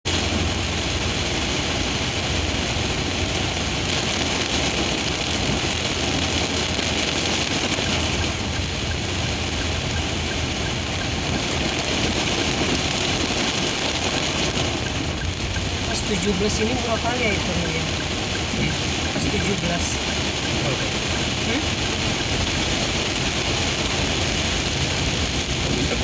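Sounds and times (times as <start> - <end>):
steady rain hiss: 0.1 - 26.0.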